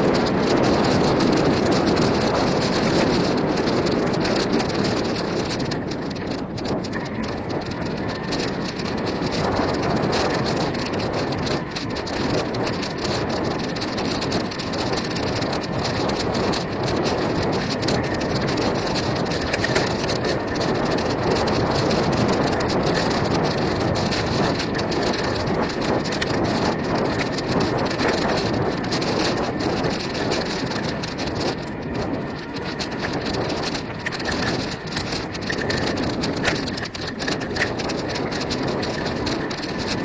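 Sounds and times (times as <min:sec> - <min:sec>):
bike tyres crackling on dirt: 0:00.0 - 0:40.0
camera shaking: 0:00.0 - 0:40.0.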